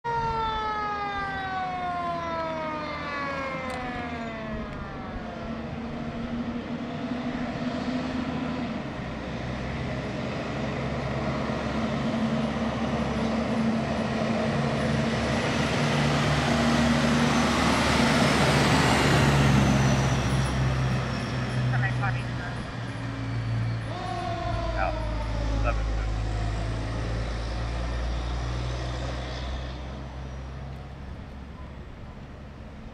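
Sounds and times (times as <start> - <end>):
fire truck siren wailing: 0.0 - 32.9
truck engine driving past: 0.2 - 32.9.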